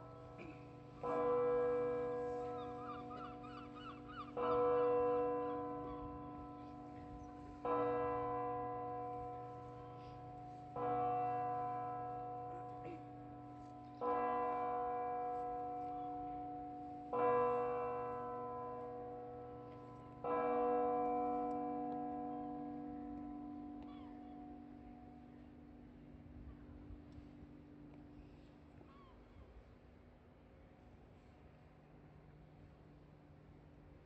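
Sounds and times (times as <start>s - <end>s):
large church bell tolling: 0.0s - 27.8s.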